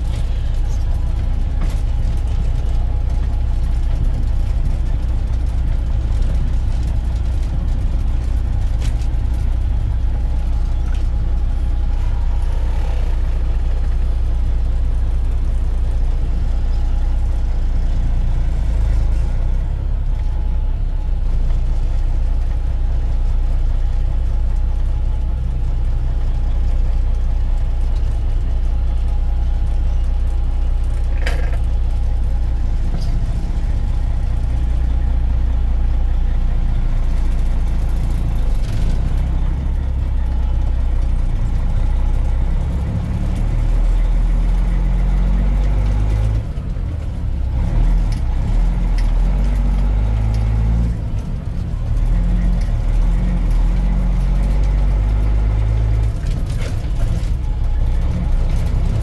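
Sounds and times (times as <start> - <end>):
truck engine low rumble: 0.0 - 59.0.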